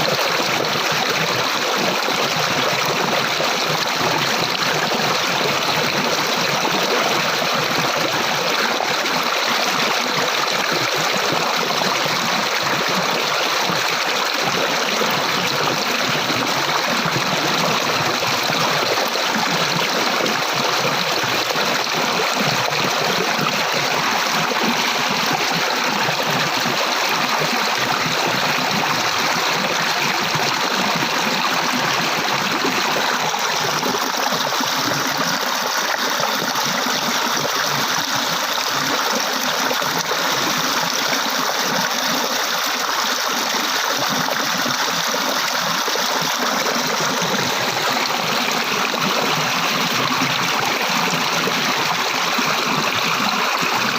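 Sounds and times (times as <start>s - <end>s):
water flowing over rocks: 0.0s - 53.9s.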